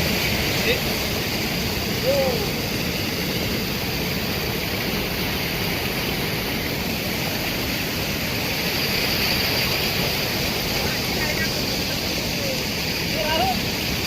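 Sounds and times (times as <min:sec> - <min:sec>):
rainwater rushing in a flood: 0:00.0 - 0:14.0.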